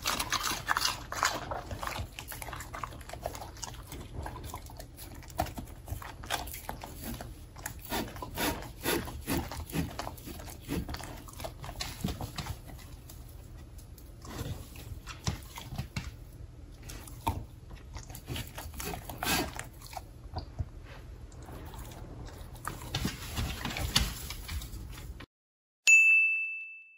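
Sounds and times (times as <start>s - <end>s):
dog licking and chewing: 0.0s - 25.1s.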